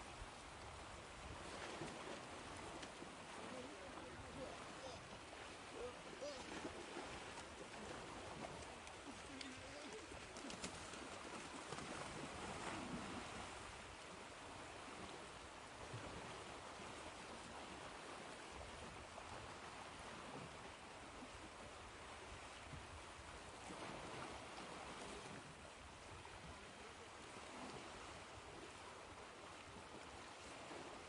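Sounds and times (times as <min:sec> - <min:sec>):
ocean waves washing on shore: 0:00.0 - 0:31.0.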